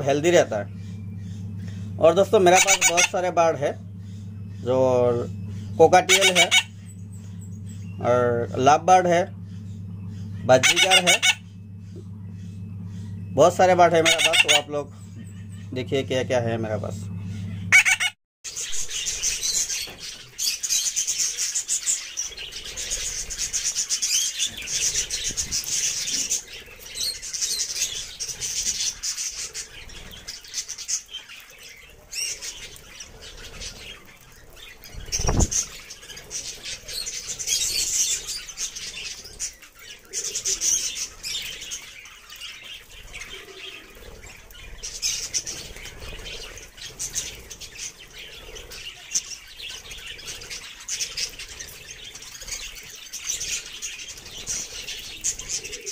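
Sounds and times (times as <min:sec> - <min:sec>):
budgerigars chattering and warbling: 0:00.0 - 0:55.9
wing flutters: 0:00.0 - 0:55.9.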